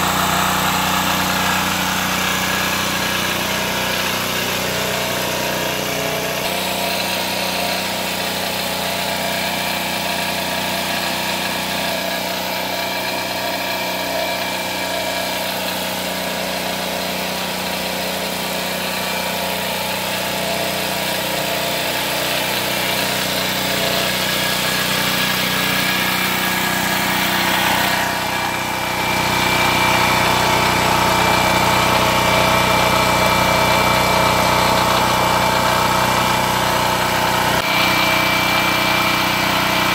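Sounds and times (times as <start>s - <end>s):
portable generator engine running: 0.0s - 39.9s.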